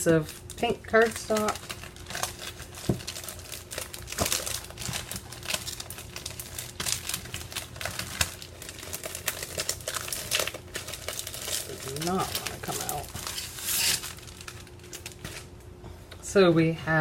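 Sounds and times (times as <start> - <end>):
cardstock rustling and crinkling: 0.1 - 15.6.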